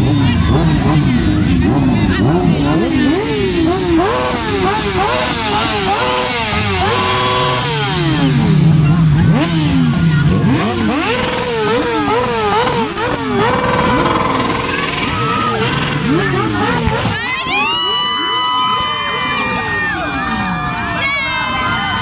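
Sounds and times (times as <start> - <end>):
motorcycles revving: 0.0 - 22.0.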